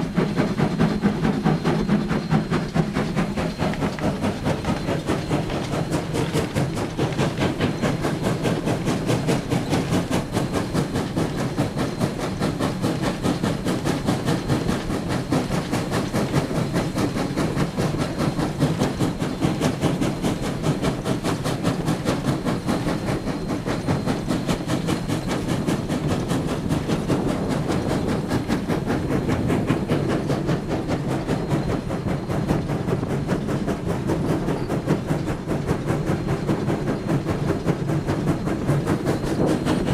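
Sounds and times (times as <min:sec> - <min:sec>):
running gear and rail clatter: 0:00.0 - 0:39.9
steam locomotive exhaust beat: 0:00.0 - 0:39.9.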